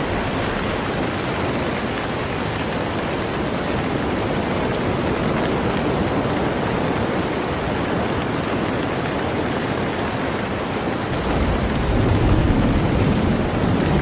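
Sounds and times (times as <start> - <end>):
heavy rain on a boat: 0.0 - 14.0.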